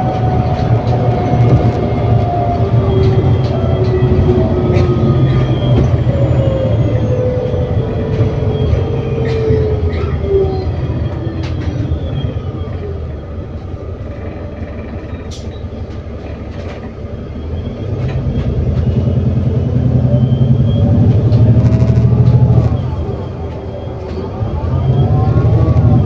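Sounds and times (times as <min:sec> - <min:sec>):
bus engine rumbling: 0:00.0 - 0:26.0
gearbox whine: 0:00.0 - 0:26.0.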